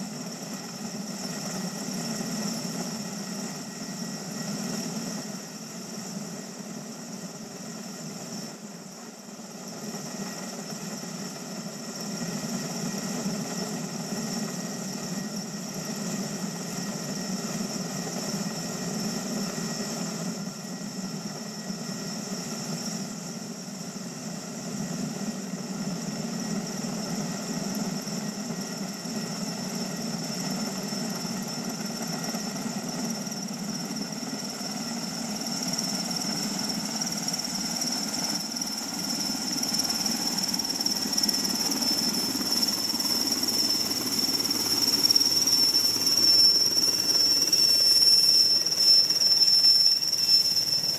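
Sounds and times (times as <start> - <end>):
helicopter turbine whine: 0.0 - 50.9.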